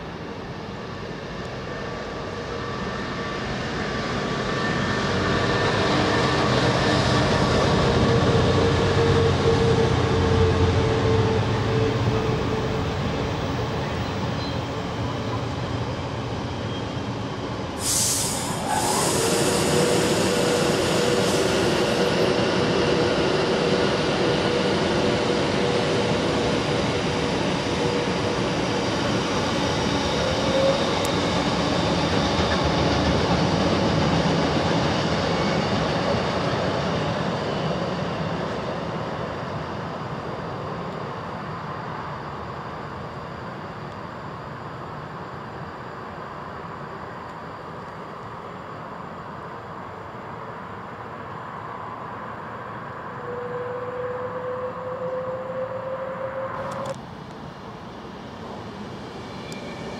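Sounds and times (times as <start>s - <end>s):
electric train rail rumble: 0.0s - 59.9s
faint train whine: 0.0s - 59.9s.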